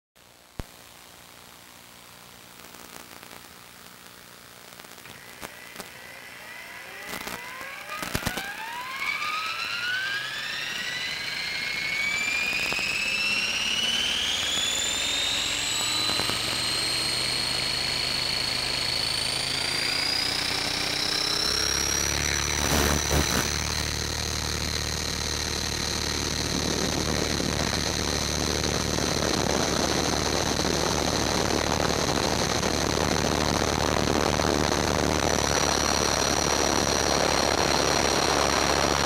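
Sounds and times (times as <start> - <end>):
electric motor and rotor whine: 4.5 - 39.0.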